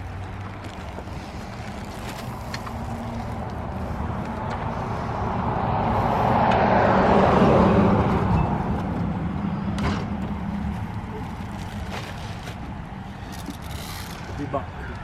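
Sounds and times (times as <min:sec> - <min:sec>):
vehicle road noise rumble: 0:00.0 - 0:15.0.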